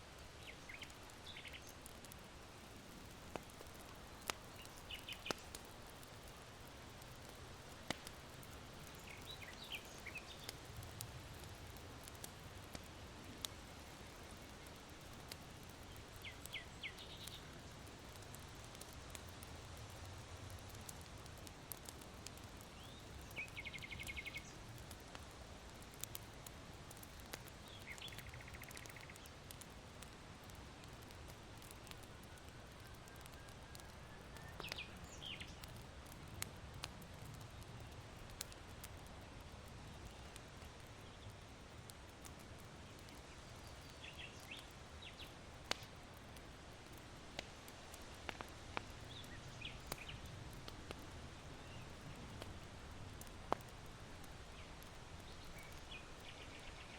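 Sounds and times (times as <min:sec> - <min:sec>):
charcoal fire crackling: 0:00.0 - 0:56.9
small birds chirping: 0:00.2 - 0:19.2, 0:20.6 - 0:25.2, 0:26.9 - 0:29.6, 0:31.6 - 0:36.5, 0:37.2 - 0:41.8, 0:42.8 - 0:46.0, 0:48.3 - 0:52.4, 0:53.2 - 0:56.9.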